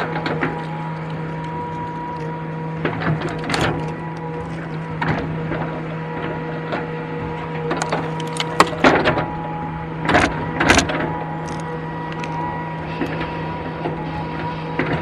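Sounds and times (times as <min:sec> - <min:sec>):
excavator engine whining: 0:00.0 - 0:15.0.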